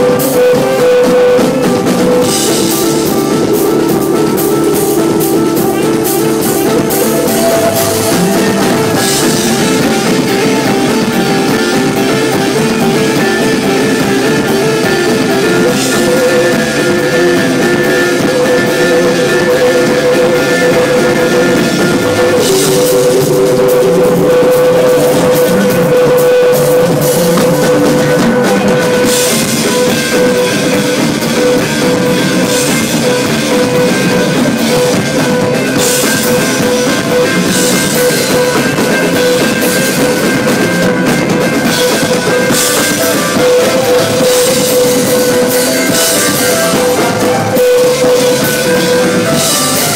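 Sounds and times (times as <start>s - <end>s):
rock band playing loud: 0.0s - 49.9s.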